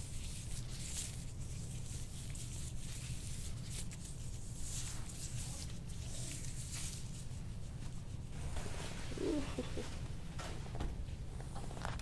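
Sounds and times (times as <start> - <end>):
hands rubbing skin: 0.0 - 9.9
steady low hum: 0.0 - 12.0.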